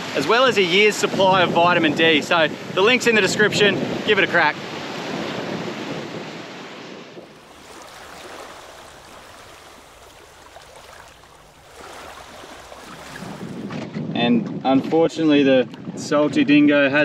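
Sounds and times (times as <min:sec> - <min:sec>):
waves washing on beach: 0:00.0 - 0:13.8
wind on microphone: 0:00.0 - 0:16.9.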